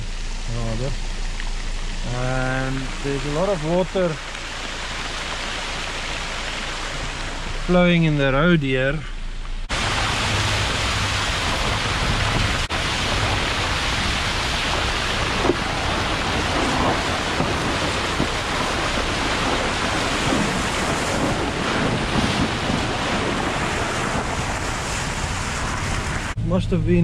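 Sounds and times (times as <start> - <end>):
floodwater rushing: 0.0 - 9.0, 9.6 - 26.4.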